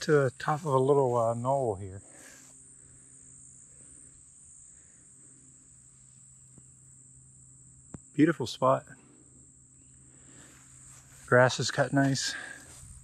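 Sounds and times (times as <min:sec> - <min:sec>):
faint low hum: 0:00.0 - 0:13.0
insects trilling: 0:00.0 - 0:13.0.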